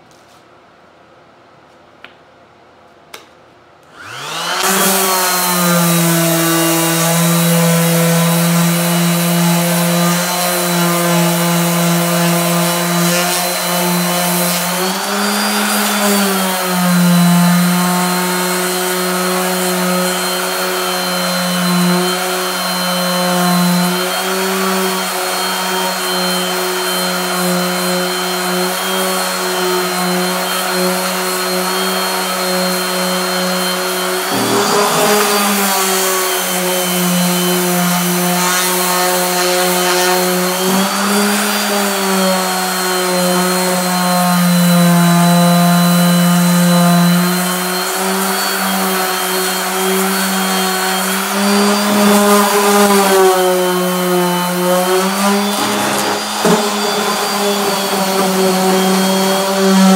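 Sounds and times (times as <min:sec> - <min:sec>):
orbital sander sanding metal: 0:04.0 - 0:59.9.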